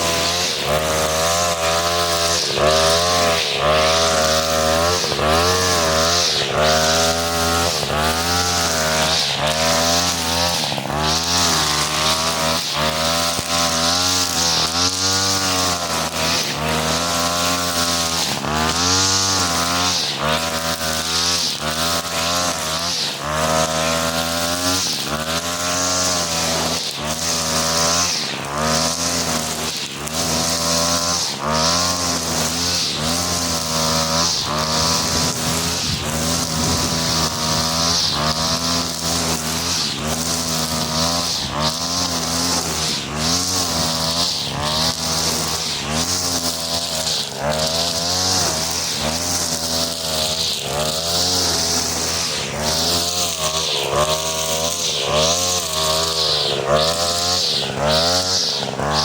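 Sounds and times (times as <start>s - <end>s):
brush cutter cutting grass: 0.0s - 59.0s.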